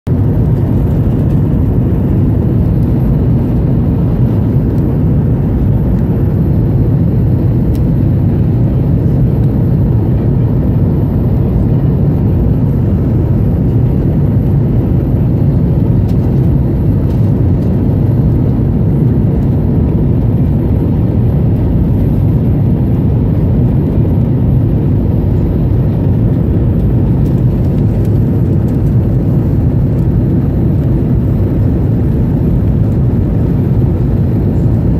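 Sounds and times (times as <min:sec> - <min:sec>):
airliner cabin drone: 0:00.1 - 0:34.9.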